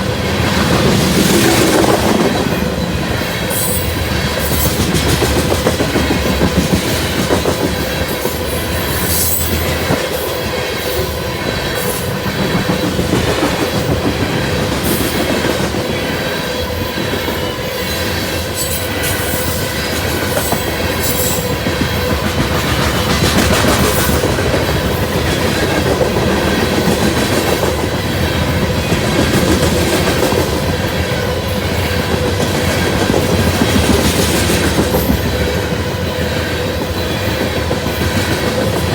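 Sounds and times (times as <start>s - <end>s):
freight train wheels clacking: 0.0s - 38.9s
wheels squealing on rails: 0.0s - 38.9s.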